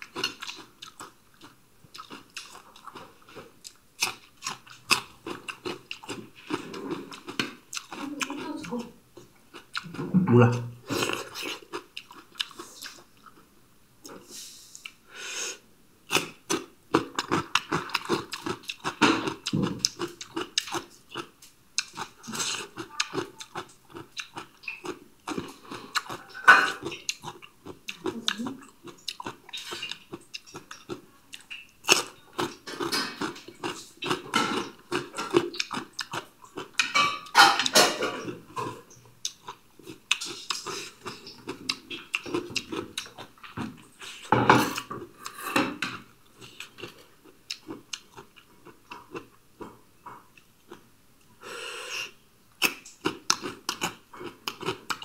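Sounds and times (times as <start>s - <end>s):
wet crunching and chewing: 0.0s - 8.8s, 10.9s - 13.5s, 16.1s - 49.8s, 52.6s - 55.0s.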